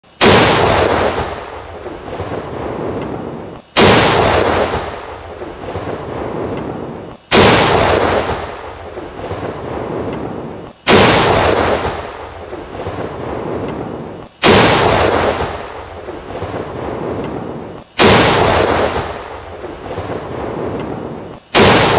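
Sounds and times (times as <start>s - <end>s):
tank cannon firing: 0.1s - 21.9s.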